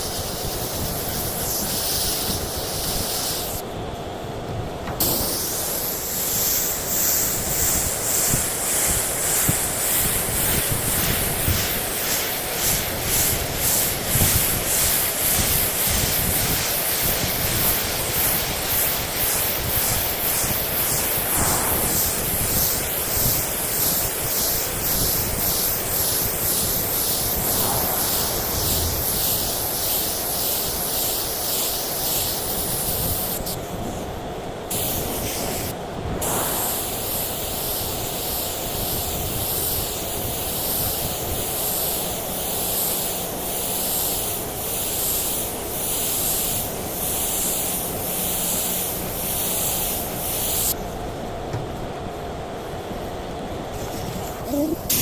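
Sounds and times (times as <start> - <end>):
spray gun hissing: 0.0 - 3.6, 4.8 - 50.8, 53.7 - 55.0.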